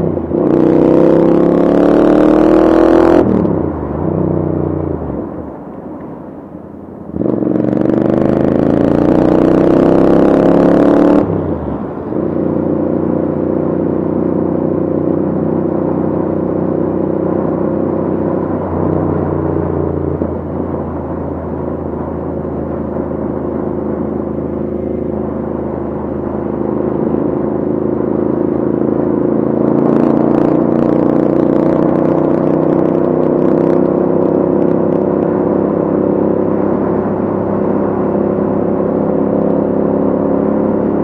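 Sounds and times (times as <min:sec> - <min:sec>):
motorcycle engine revving: 0:00.0 - 0:05.3, 0:07.0 - 0:41.0.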